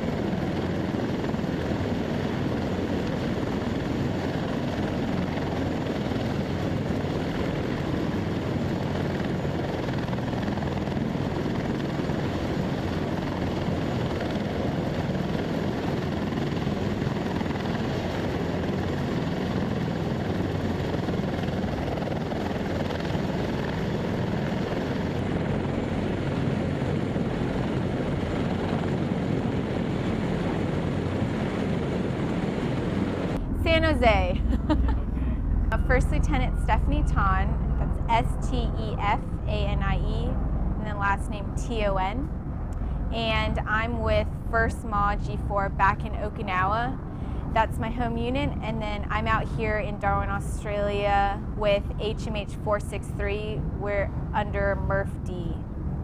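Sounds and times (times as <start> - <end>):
helicopter running: 0.0 - 56.0.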